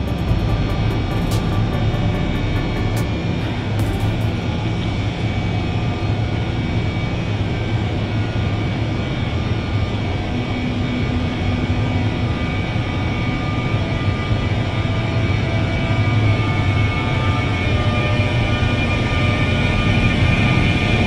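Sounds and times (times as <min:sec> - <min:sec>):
electric locomotive humming and whining: 0:00.0 - 0:21.0.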